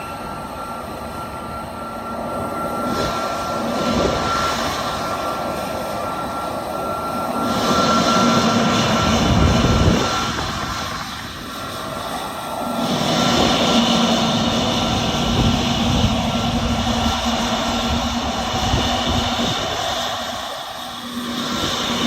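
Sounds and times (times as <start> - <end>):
jet engines whining: 0.0 - 22.0
wind noise: 0.0 - 22.0.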